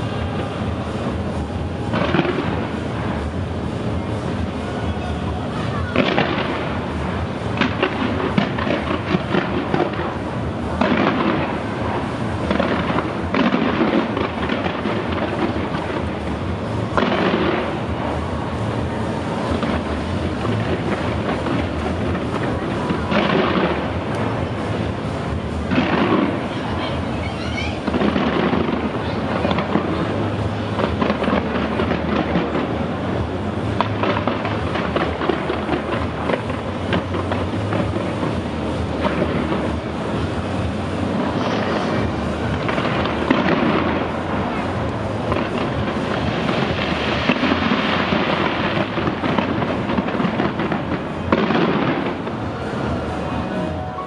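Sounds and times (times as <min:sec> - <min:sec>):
fireworks crackling: 0:00.0 - 0:54.0.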